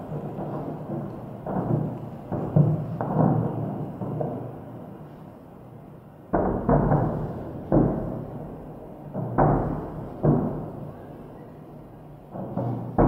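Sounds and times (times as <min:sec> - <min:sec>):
distant fireworks booms echoing: 0:00.0 - 0:13.0.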